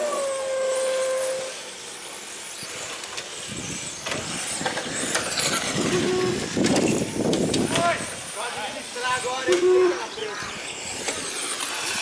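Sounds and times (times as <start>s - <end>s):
electric motor whine: 0.0s - 12.0s
rc cars passing: 0.0s - 12.0s.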